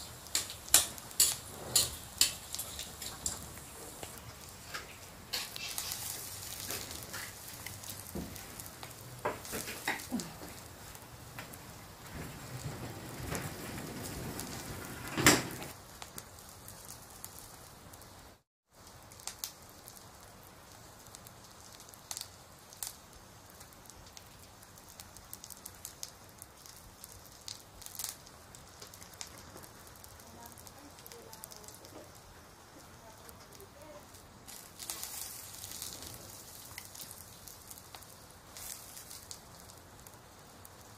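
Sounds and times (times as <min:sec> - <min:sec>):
hot oil sizzling in a wok: 0:00.0 - 0:12.6, 0:15.6 - 0:40.9.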